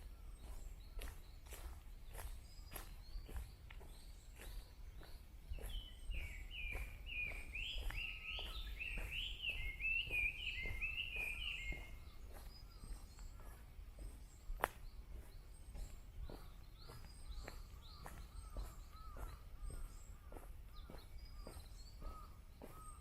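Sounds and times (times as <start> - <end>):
songbird singing: 0.0 - 23.0
walking footsteps: 0.0 - 23.0.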